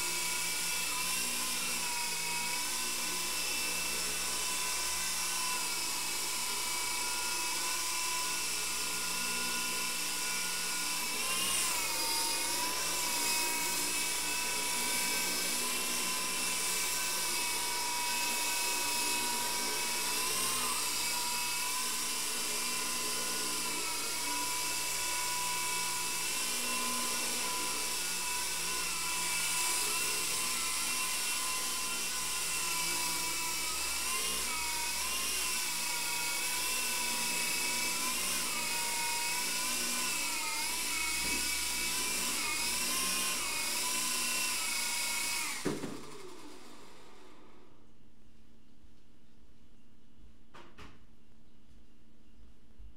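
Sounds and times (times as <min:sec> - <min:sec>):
toy helicopter motor whine: 0:00.0 - 0:47.7.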